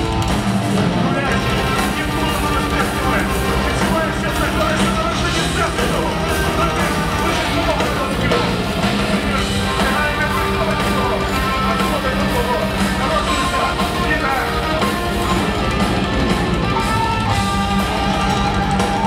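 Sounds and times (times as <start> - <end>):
distorted electric guitars: 0.0 - 19.0
fast drumming: 0.0 - 19.0
keyboards: 0.0 - 19.0.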